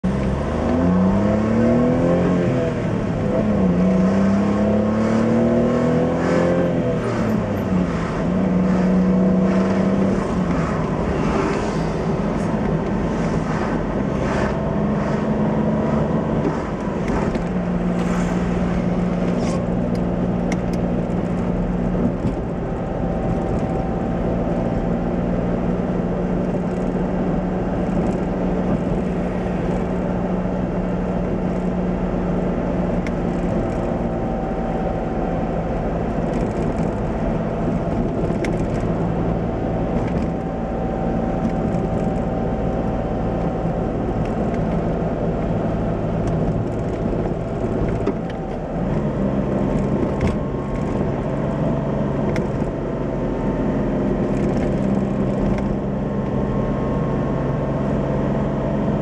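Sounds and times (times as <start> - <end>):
small car engine accelerating: 0.0 - 59.0.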